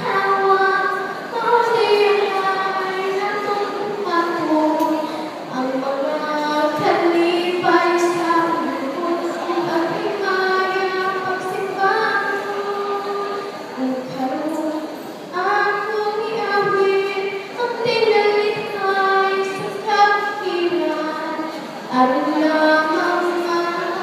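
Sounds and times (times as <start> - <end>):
woman singing into microphone: 0.0 - 24.0.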